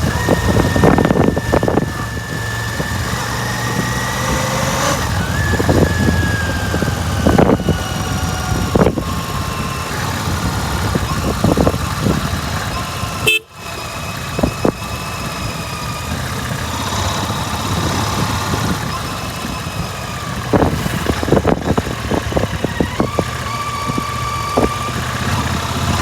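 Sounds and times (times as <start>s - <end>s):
motorcycle exhaust running: 0.0s - 26.0s
sharp exhaust cracks: 0.0s - 26.0s.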